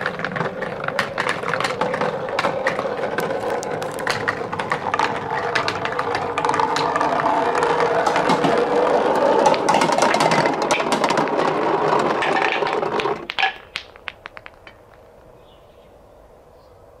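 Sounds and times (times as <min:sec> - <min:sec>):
marbles rolling in plastic gutter: 0:00.0 - 0:15.2
balls clicking into wooden bowl: 0:00.0 - 0:15.3.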